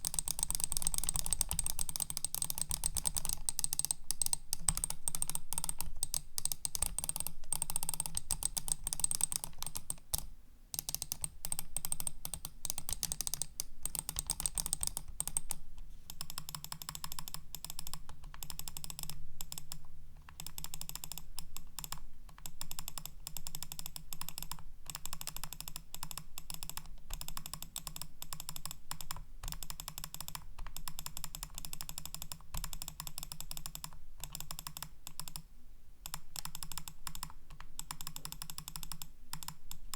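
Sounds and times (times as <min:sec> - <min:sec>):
computer mouse clicking: 0:00.0 - 0:39.9.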